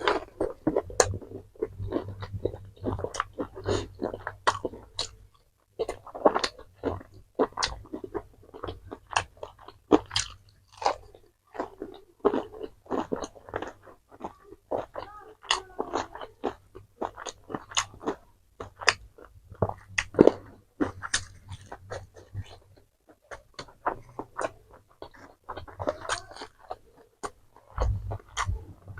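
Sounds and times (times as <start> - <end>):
person chewing crunchy food: 0.0 - 28.9.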